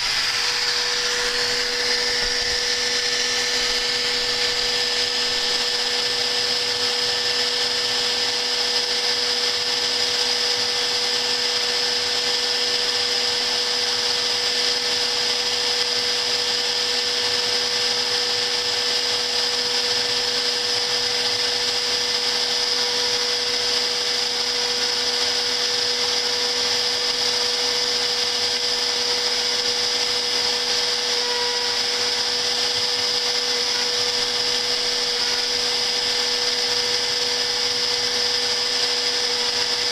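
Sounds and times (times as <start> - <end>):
router spindle motor whine: 0.0 - 39.9.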